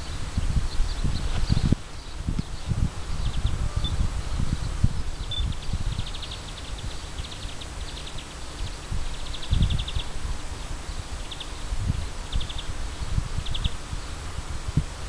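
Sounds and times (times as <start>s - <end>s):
rapid high chirps: 0.0s - 14.2s
wind buffeting microphone: 0.0s - 15.0s.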